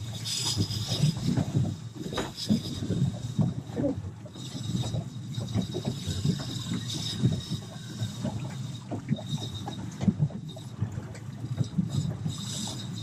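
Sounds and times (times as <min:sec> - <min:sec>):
waves slapping boat hull: 0:00.0 - 0:13.0
wind on microphone: 0:00.0 - 0:13.0.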